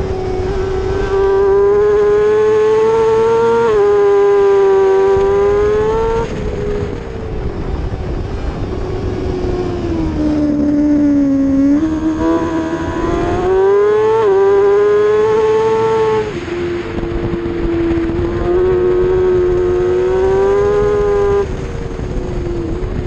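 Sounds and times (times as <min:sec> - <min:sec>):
motorcycle engine revving high: 0:00.0 - 0:23.0.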